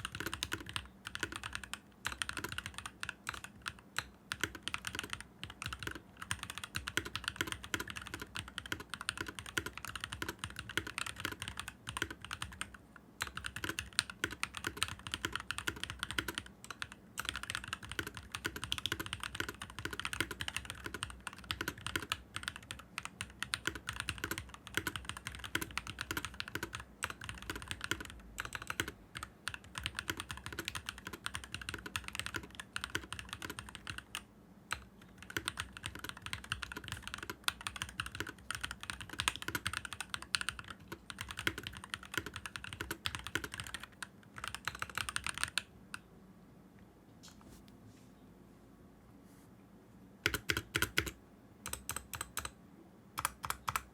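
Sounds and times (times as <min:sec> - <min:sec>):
mechanical keyboard typing: 0:00.0 - 0:46.1, 0:50.2 - 0:52.6, 0:53.2 - 0:53.9.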